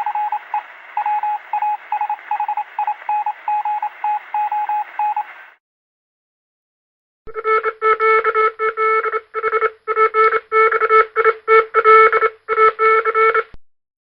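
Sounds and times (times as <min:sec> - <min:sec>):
morse code electronic beeps: 0:00.0 - 0:05.3, 0:07.3 - 0:13.5.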